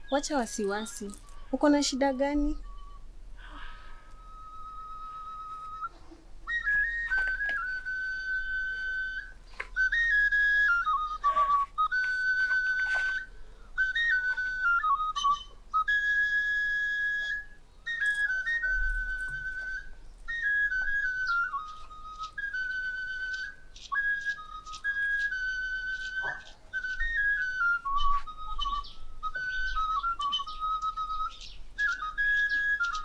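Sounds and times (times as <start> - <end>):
high whistle melody with trills: 0.0 - 33.0.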